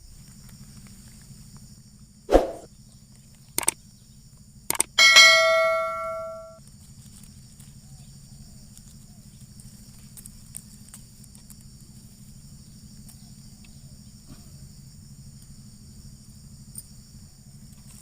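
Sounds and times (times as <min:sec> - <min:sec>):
constant low hum: 0:00.0 - 0:18.0
insect chorus: 0:00.0 - 0:18.0.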